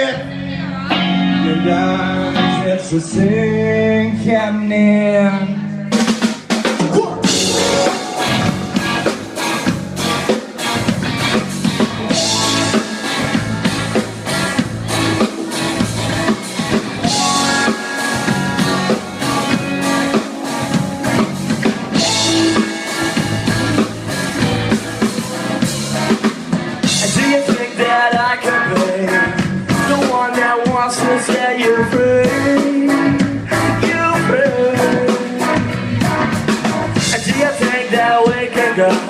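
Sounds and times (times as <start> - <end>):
live rock band playing: 0.0 - 39.0
drum kit driving beat: 5.9 - 39.0.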